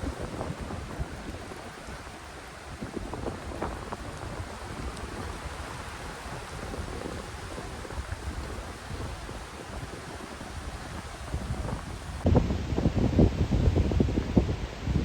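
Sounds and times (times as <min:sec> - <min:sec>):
hiss of wind and rain: 0:00.0 - 0:15.0
wind buffeting microphone: 0:00.0 - 0:15.0.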